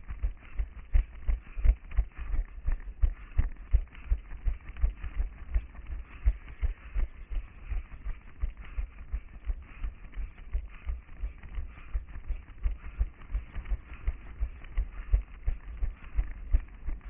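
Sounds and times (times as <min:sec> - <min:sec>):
running footsteps on pavement: 0:00.2 - 0:17.0.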